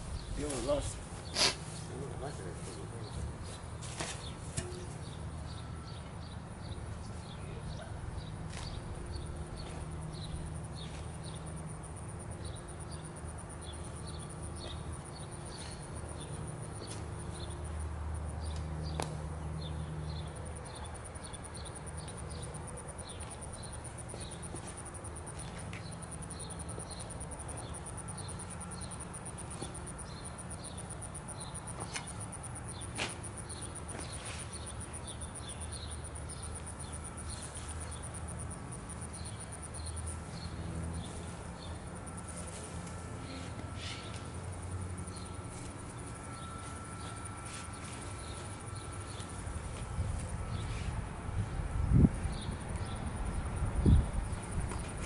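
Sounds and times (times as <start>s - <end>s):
insects chirping: 0.0s - 55.0s
steady low hum: 0.0s - 55.0s.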